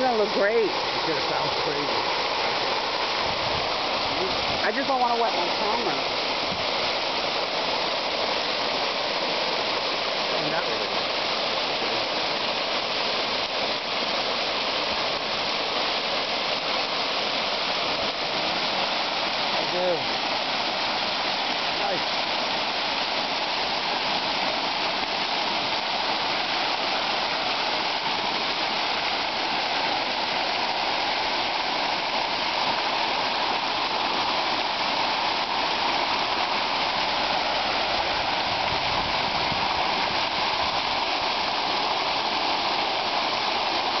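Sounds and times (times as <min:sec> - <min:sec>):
fountain water splashing: 0:00.0 - 0:44.0.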